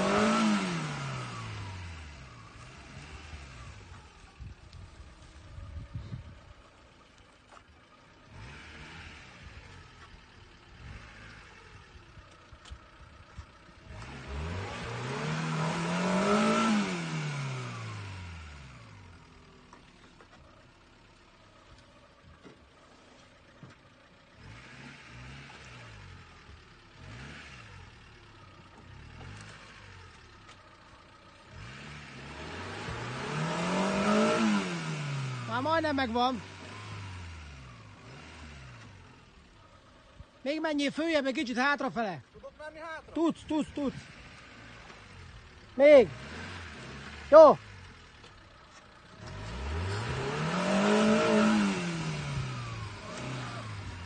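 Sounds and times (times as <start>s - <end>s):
car engine revving: 0.0s - 20.0s, 20.7s - 54.0s.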